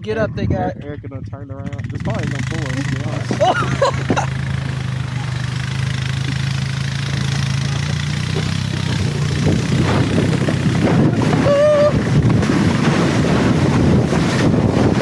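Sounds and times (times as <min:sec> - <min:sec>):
vehicle engine humming: 0:02.1 - 0:15.0.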